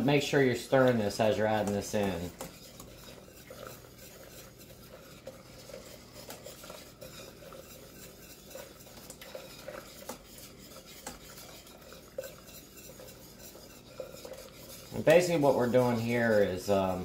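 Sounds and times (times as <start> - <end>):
whisk clinking against saucepan: 0.0 - 17.0.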